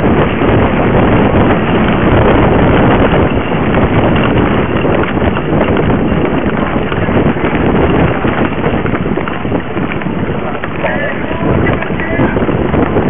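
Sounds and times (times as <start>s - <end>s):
bike rattling over bumps: 0.0s - 13.0s
wind buffeting microphone: 0.0s - 13.0s.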